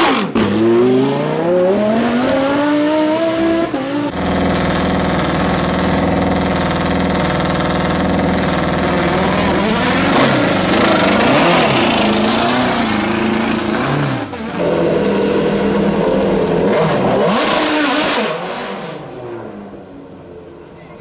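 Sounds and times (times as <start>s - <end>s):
race car engine revving: 0.0s - 19.7s.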